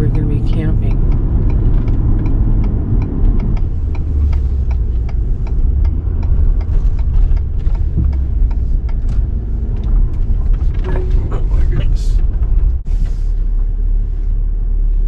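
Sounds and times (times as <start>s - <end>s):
turn signal ticking: 0.0s - 12.9s
truck engine and tyres rumbling: 0.0s - 15.0s.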